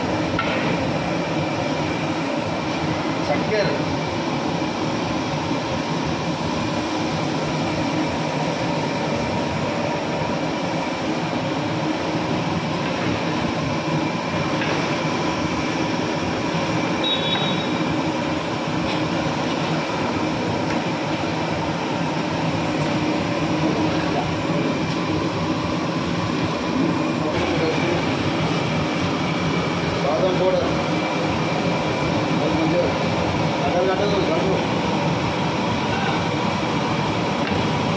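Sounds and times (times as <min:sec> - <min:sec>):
gas burner roaring: 0:00.0 - 0:37.9.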